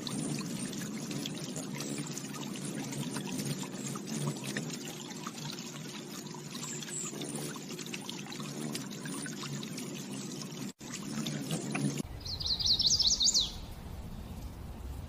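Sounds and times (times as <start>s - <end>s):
water trickling and bubbling: 0.0s - 15.0s.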